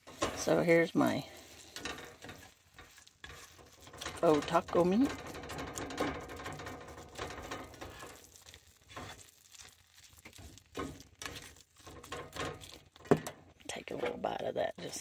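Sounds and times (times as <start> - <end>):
faint sizzle: 0.0 - 15.0
spatula scraping skillet: 0.0 - 15.0.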